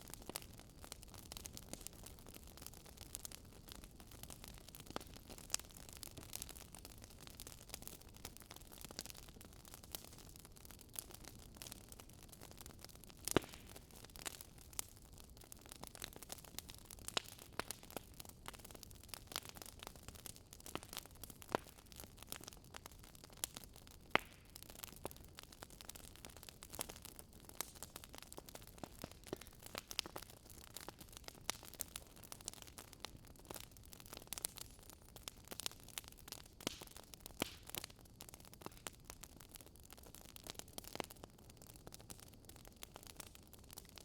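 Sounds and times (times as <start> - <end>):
campfire wood crackling: 0.0 - 44.0.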